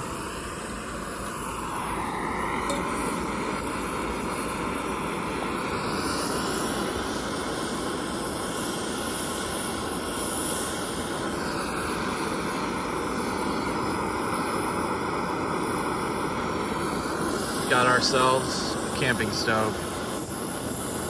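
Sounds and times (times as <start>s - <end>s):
gas stove burner roaring: 0.0s - 21.0s.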